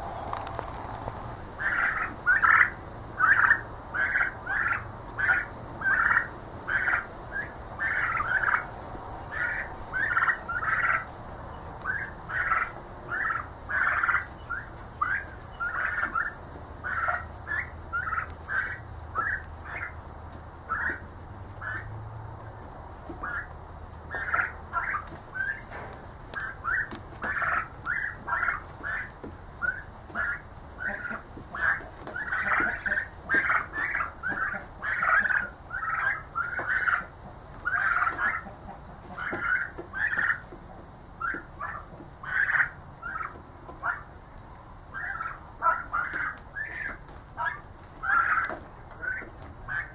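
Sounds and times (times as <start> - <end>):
young turkeys trilling: 0.0 - 49.9.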